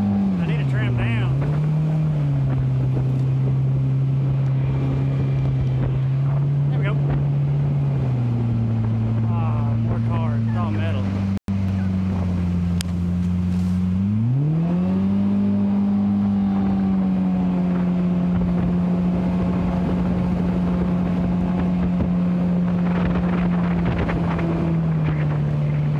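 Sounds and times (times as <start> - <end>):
outboard engine revving: 0.0 - 25.9.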